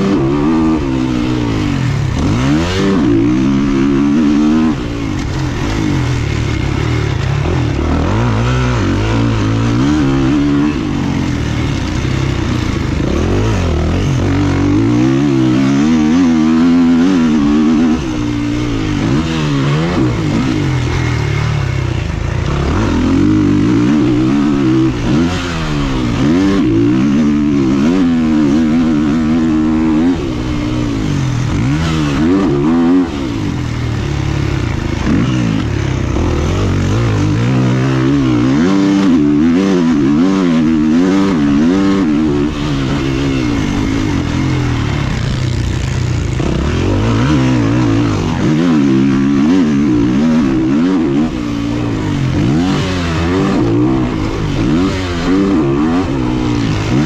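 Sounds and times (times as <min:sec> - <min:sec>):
two-stroke motorbike engine revving: 0:00.0 - 0:57.0.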